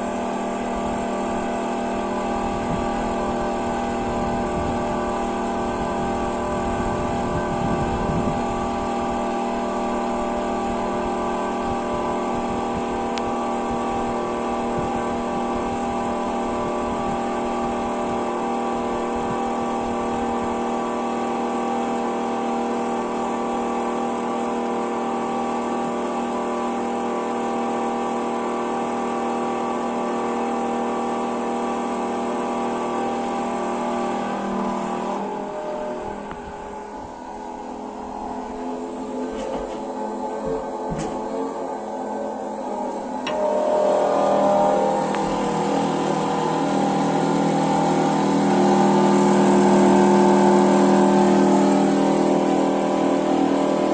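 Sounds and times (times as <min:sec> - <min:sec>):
engine running steadily: 0:00.0 - 0:53.9.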